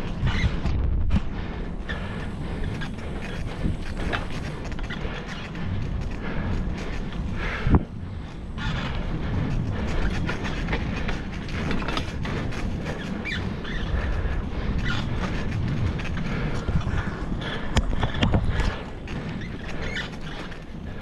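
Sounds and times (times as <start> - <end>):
bicycle rumbling over rough trail: 0.0 - 21.0
bike rattles and squeaks: 0.0 - 21.0.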